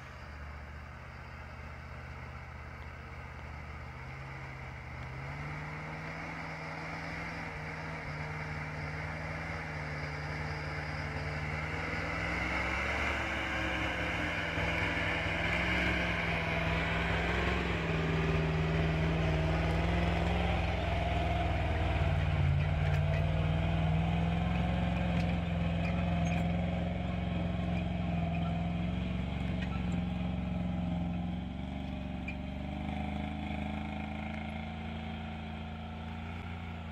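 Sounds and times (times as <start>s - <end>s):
truck engine under load: 0.0s - 36.9s.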